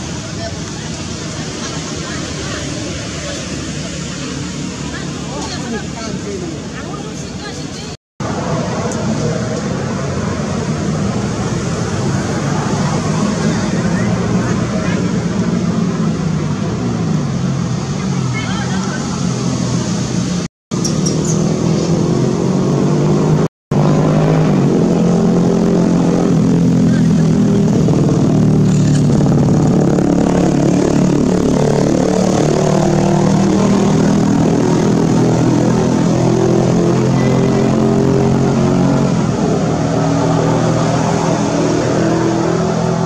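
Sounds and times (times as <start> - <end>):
engine running with wavering hum: 0.0 - 43.0.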